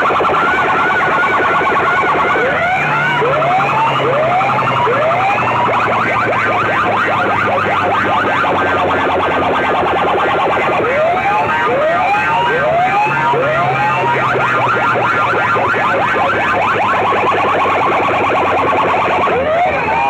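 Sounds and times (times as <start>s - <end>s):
rapid pulsing siren buzz: 0.0s - 20.0s
rising siren whoops: 0.0s - 20.0s.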